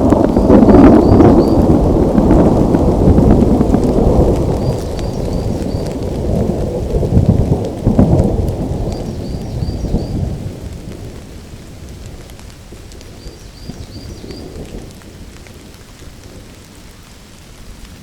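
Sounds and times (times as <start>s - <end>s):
rolling thunder: 0.0s - 16.7s
steady rain: 0.0s - 18.0s.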